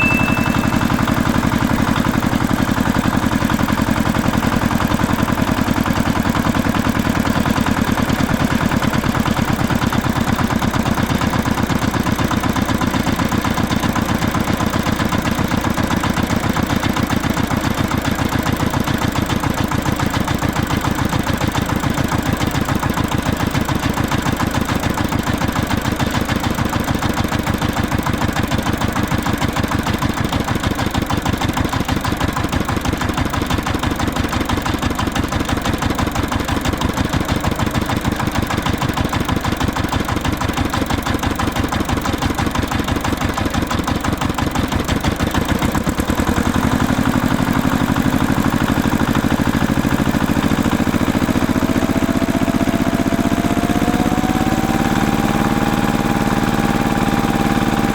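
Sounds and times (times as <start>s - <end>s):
engine chugging: 0.0s - 57.9s.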